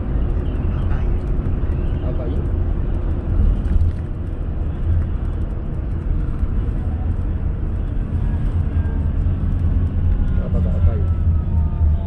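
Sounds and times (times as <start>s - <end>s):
car tyre and engine rumble: 0.0s - 12.0s.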